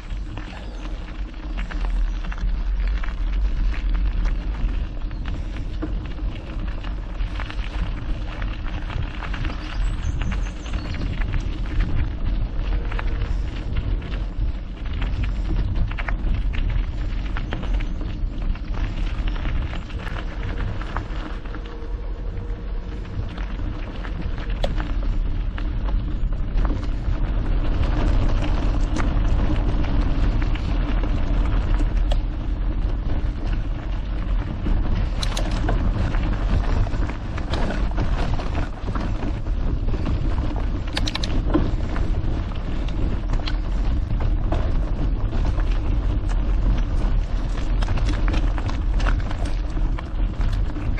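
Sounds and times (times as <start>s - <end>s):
bike tyres rumbling on gravel: 0.0s - 50.9s
small clicks and rattles: 0.0s - 50.9s.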